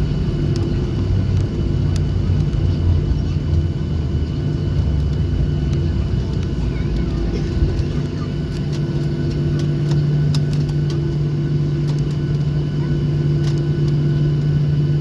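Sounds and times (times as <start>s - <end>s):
aircraft engines low hum: 0.0s - 15.0s.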